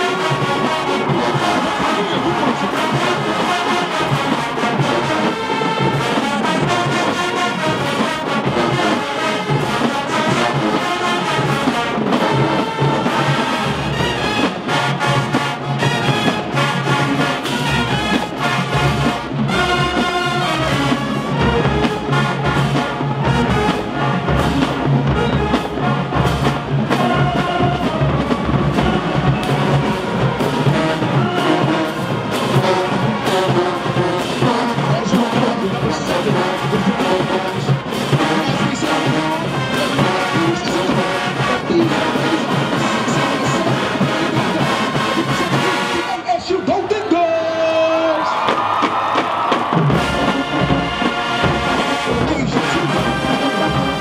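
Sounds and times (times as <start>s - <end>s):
drumline beat: 0.0s - 54.0s
marching band brass music: 0.0s - 54.0s.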